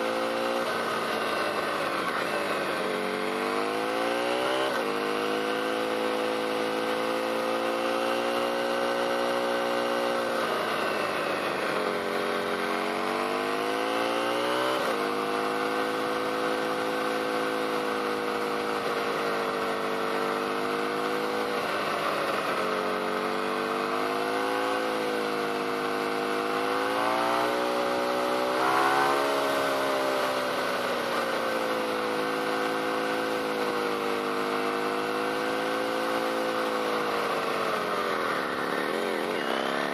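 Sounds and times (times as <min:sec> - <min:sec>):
motorcycle engine running: 0:00.0 - 0:14.1, 0:14.9 - 0:39.9.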